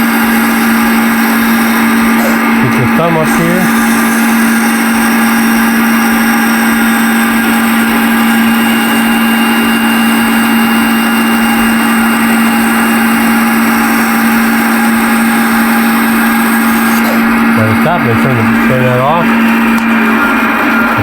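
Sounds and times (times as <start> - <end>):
table saw running: 0.0 - 21.0.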